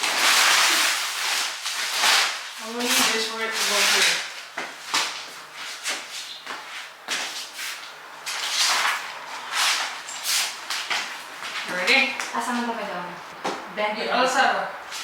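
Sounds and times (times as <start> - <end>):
rustling and scraping: 0.0 - 13.7.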